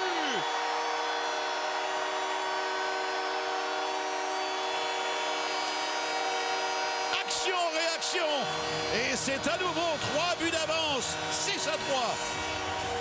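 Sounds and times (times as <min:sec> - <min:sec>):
arena goal horn: 0:00.0 - 0:13.0
crowd cheering: 0:00.0 - 0:13.0.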